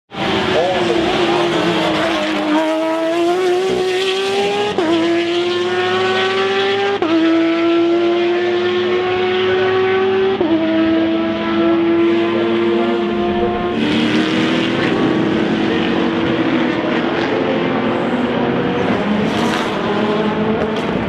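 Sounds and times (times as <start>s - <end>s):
race car engine shifting gears: 0.2s - 21.0s.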